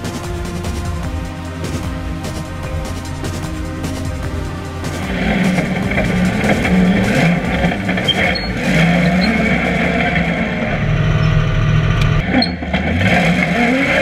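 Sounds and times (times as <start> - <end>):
buggy engine running loudly: 0.0 - 14.0.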